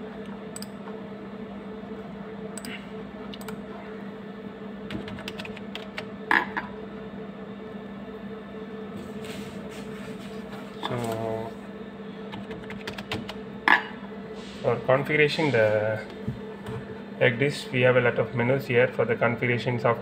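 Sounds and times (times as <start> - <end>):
low hum of running equipment: 0.0 - 20.0.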